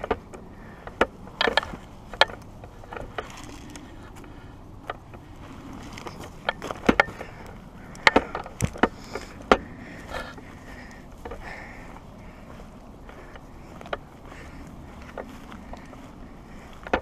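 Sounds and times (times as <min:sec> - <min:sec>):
footsteps through dry grass: 0:00.0 - 0:17.0
twigs snapping underfoot: 0:00.0 - 0:17.0.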